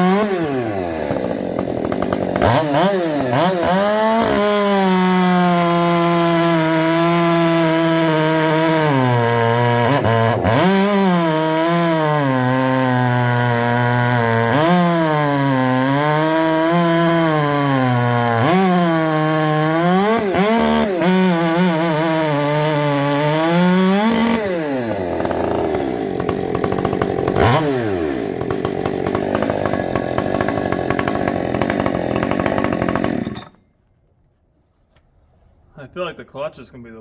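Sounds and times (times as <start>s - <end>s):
chainsaw cutting: 0.0s - 33.6s.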